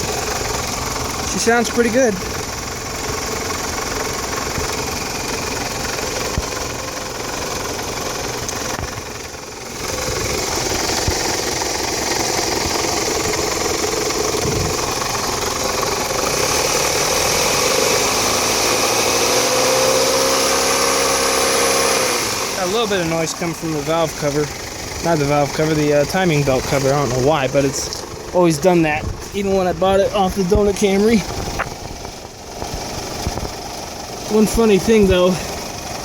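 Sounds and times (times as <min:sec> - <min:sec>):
light rattle from engine cover: 0:00.0 - 0:16.8, 0:22.2 - 0:36.0
car engine idling: 0:00.0 - 0:36.0.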